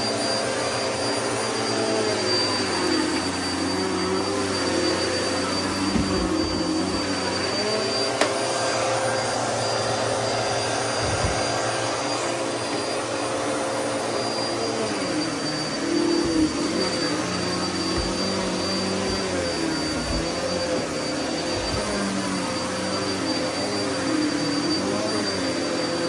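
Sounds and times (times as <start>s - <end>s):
vacuum cleaner running on carpet: 0.0s - 26.0s.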